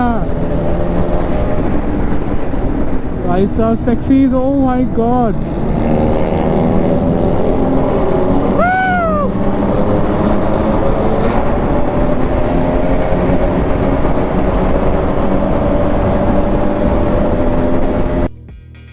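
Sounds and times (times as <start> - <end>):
car engine through loud exhaust: 0.0 - 18.4.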